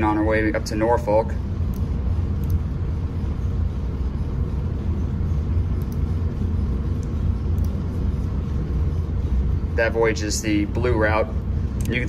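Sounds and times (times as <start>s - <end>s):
ship engine rumble and hum: 0.0s - 12.0s.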